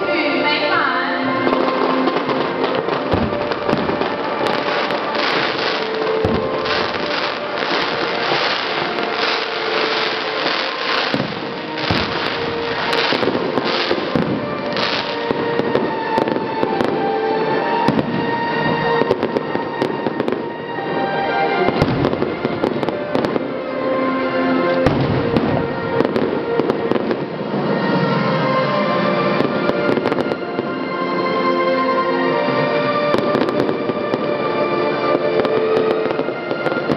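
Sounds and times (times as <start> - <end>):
music with sustained tones: 0.0 - 36.9
fireworks bursting and crackling: 1.3 - 23.6, 24.7 - 31.4, 32.9 - 36.9.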